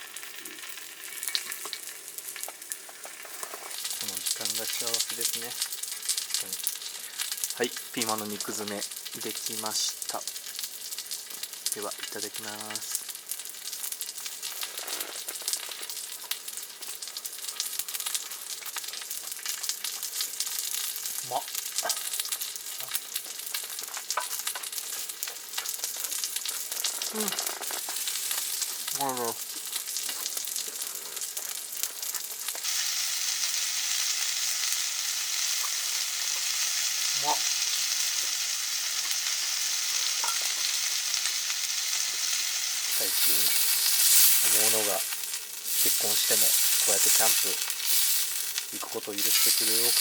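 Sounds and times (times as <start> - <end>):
meat sizzling on a grill pan: 0.0 - 50.0.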